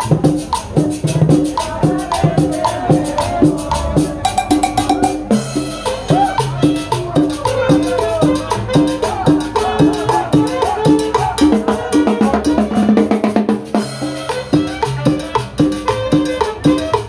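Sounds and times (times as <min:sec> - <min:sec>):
drums and hand percussion: 0:00.0 - 0:17.0
latin dance music: 0:00.0 - 0:17.0.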